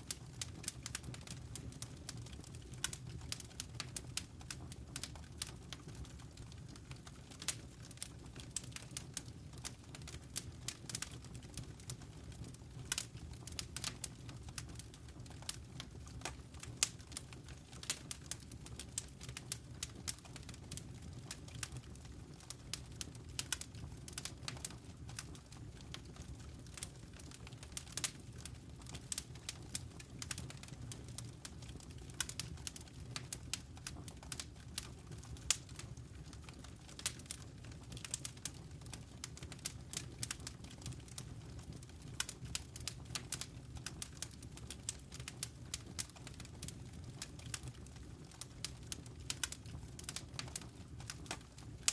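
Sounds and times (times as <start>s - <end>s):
fireplace fire crackling: 0.0s - 51.9s.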